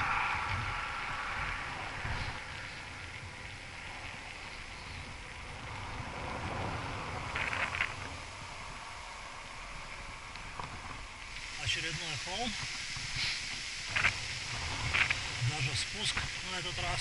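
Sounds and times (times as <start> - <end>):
wind on microphone: 0.0 - 11.6, 12.5 - 17.0
bike tyres rolling on asphalt: 0.0 - 17.0.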